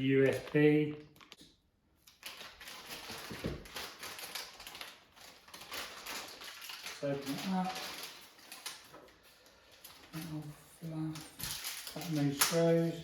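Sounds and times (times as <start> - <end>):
packaging rustling: 2.0 - 13.0.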